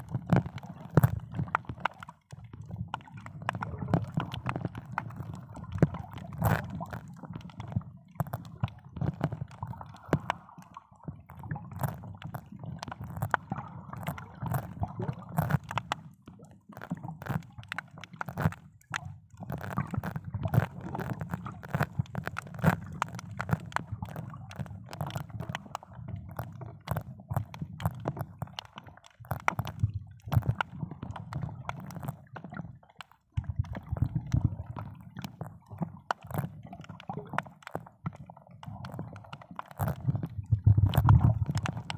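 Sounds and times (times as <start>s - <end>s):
crackling clicks: 0.0s - 41.9s
water sloshing and gurgling: 0.0s - 41.9s.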